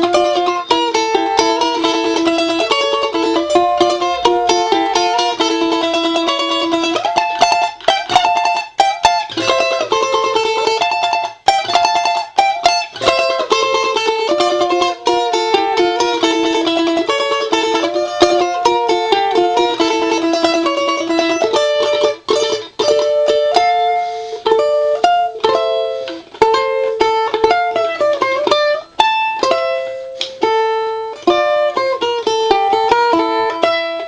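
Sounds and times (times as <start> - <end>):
fast plucked mandolin music: 0.0 - 34.0.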